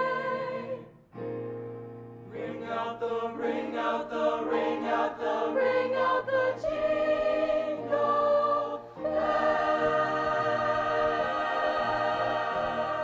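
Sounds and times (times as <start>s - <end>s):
choir singing a cappella: 0.0s - 1.0s, 2.2s - 13.0s.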